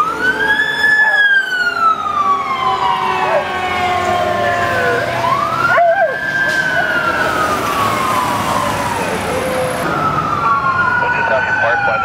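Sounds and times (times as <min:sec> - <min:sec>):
sirens wailing: 0:00.0 - 0:12.0
traffic noise: 0:00.0 - 0:12.0.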